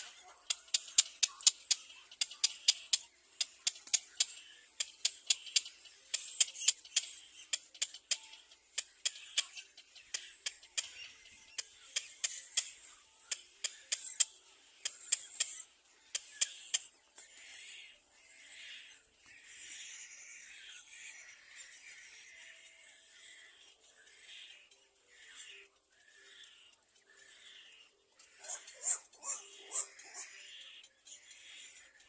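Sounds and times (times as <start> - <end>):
baby birds chipping: 0.0 - 32.0.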